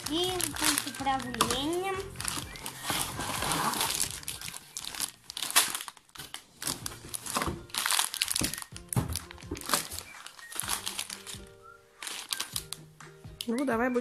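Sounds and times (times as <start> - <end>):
plastic bags crinkling: 0.0 - 13.7.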